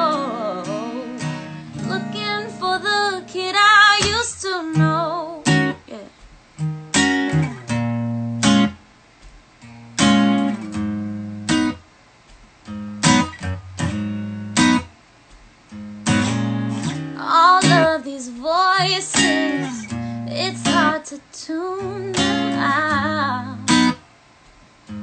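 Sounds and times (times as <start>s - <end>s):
acoustic guitar strummed chords: 0.0s - 25.0s.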